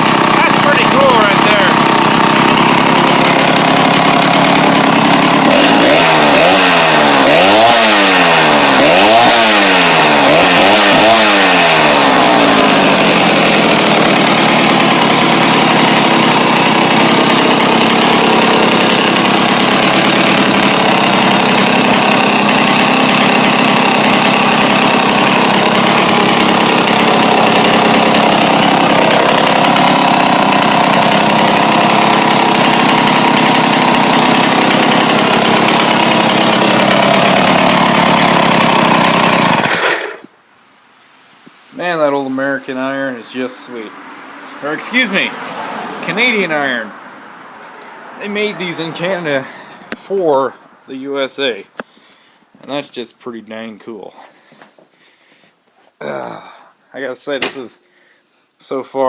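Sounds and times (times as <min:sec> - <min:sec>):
two-stroke chainsaw engine revving: 0:00.0 - 0:40.3, 0:41.8 - 0:54.4.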